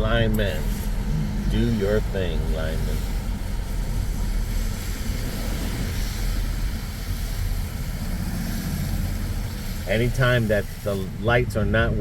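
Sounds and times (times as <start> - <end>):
car engine and road rumble: 0.0 - 12.0
tyre and wind hiss: 0.0 - 12.0.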